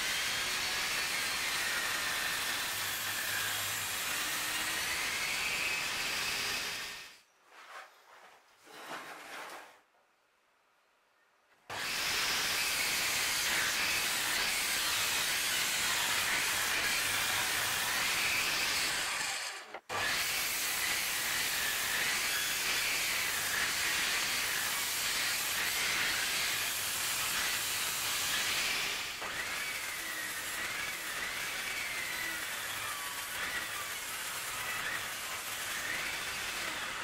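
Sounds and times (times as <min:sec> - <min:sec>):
table saw cutting wood: 0:00.0 - 0:07.2, 0:11.7 - 0:37.0.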